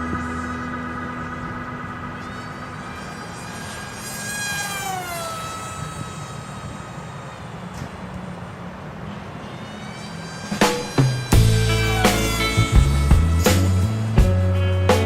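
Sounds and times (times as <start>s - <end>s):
model airplane motor whining: 0.0s - 14.7s.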